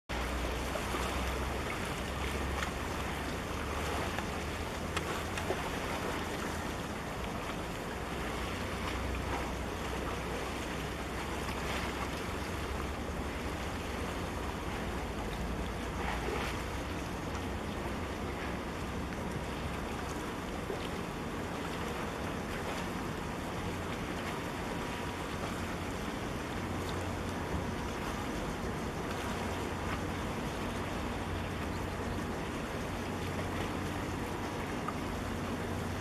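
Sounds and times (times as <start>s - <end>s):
ship low rumble: 0.1s - 36.0s
water washing: 0.1s - 36.0s.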